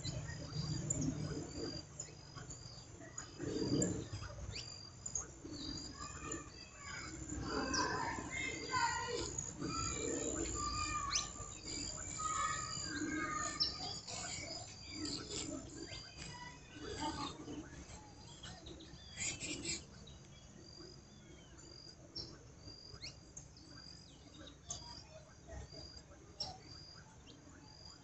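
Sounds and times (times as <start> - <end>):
many birds chirping: 0.0 - 28.0.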